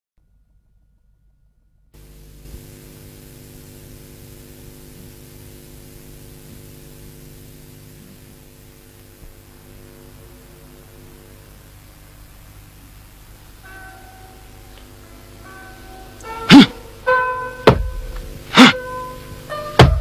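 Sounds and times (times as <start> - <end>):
low mains hum: 0.2 - 20.0
static hiss: 2.0 - 20.0.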